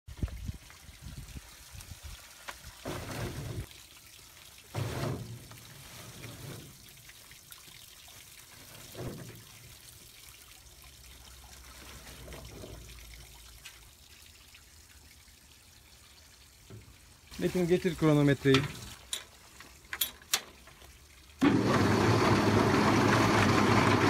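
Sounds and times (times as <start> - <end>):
trickle of water: 0.1 - 21.4.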